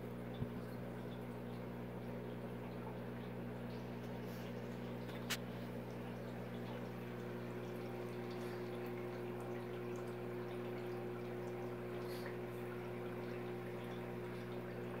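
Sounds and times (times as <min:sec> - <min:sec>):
aquarium filter hum: 0:00.0 - 0:15.0
water trickling and splashing: 0:00.0 - 0:15.0.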